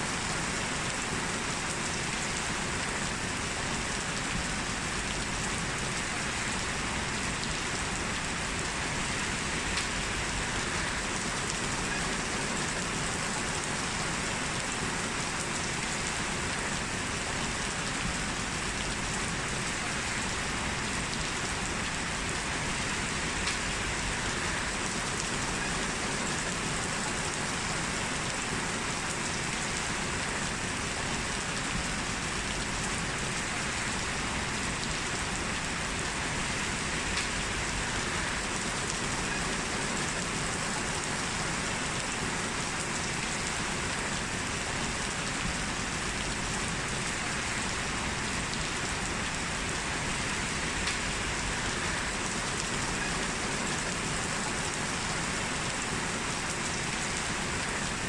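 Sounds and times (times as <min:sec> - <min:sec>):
heavy rain on hard surfaces: 0:00.0 - 0:58.0.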